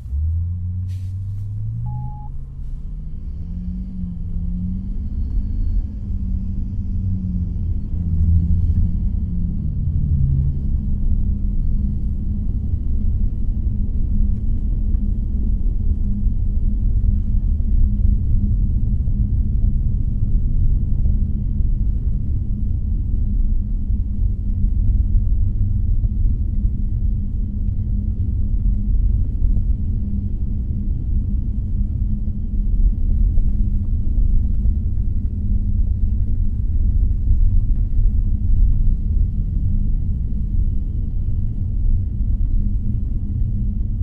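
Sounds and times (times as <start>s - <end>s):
faint steady hum: 0.0s - 44.0s
road and engine rumble in car: 0.0s - 44.0s.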